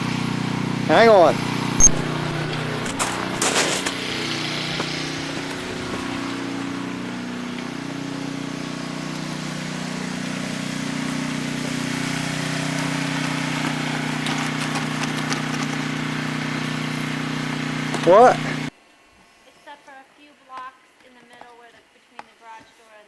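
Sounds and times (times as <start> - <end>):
engine running steadily: 0.0 - 18.7.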